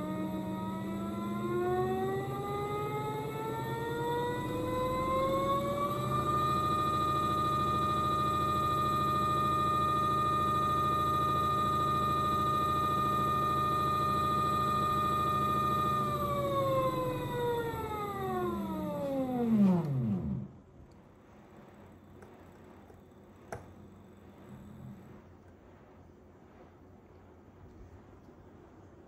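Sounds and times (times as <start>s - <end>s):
washing machine drum spin whine: 0.0s - 29.0s.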